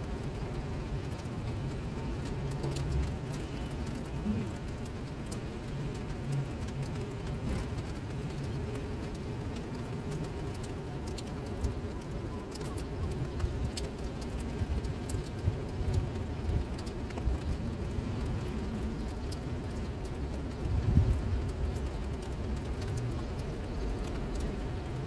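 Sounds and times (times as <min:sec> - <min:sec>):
rain falling into puddles: 0:00.0 - 0:25.0.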